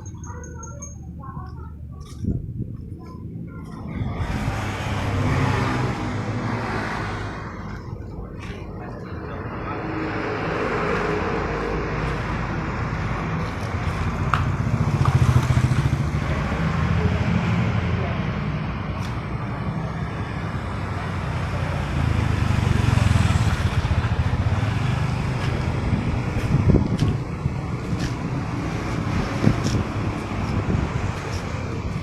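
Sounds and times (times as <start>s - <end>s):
engine running: 2.8s - 32.0s.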